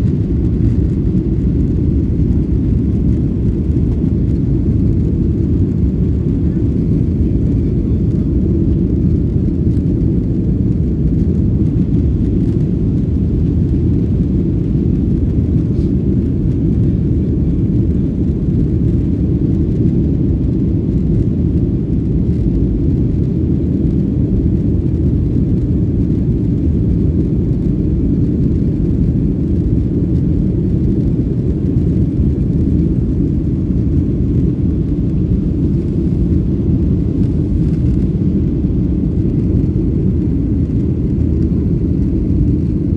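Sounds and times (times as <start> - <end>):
airplane rumble: 0.0 - 42.9.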